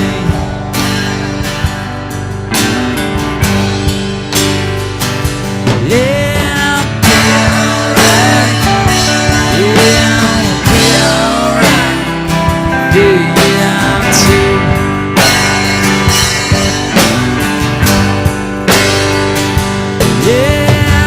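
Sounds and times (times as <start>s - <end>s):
guitar line with bent notes: 0.0s - 21.0s
steady drum beat: 0.0s - 21.0s
sustained backing: 0.0s - 21.0s.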